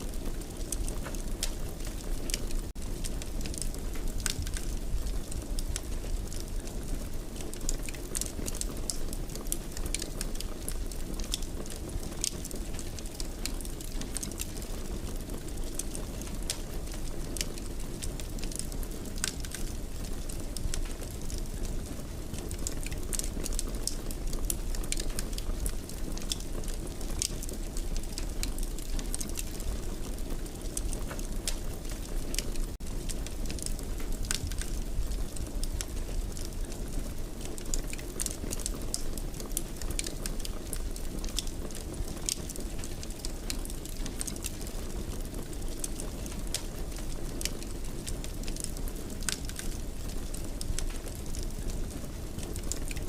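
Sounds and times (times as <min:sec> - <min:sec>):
fire crackling: 0:00.0 - 0:53.0.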